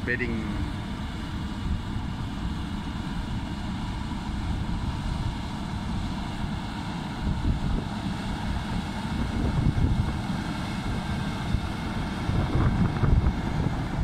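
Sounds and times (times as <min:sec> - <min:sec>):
diesel engine rumbling under load: 0:00.0 - 0:14.0.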